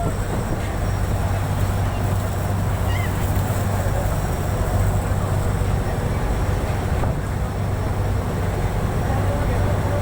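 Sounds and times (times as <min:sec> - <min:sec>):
boat engine droning: 0:00.0 - 0:10.0
wind: 0:00.0 - 0:10.0.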